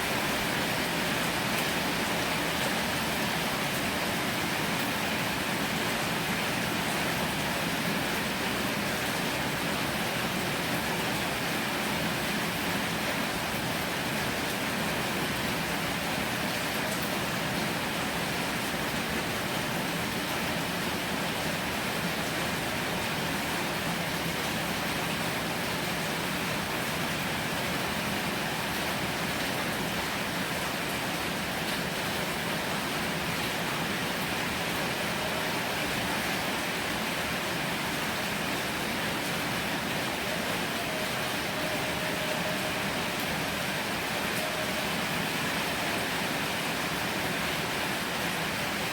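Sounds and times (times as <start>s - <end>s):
heavy rain: 0.0s - 48.9s.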